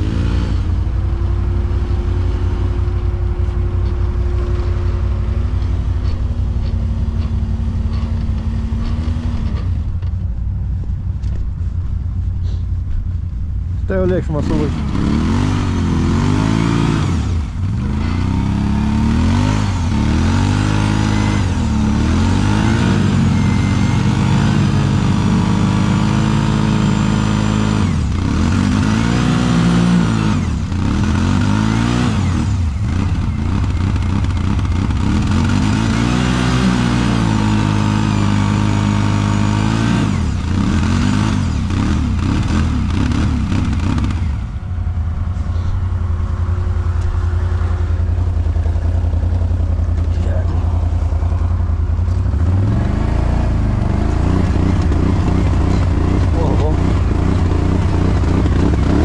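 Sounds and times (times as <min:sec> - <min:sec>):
quad bike engine revving: 0:00.0 - 0:10.1, 0:13.9 - 0:59.0.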